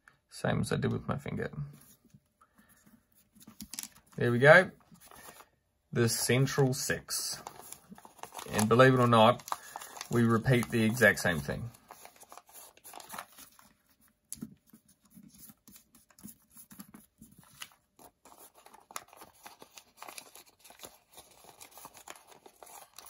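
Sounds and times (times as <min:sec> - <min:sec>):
paper crinkling while folded: 0:01.8 - 0:05.5, 0:06.1 - 0:23.0.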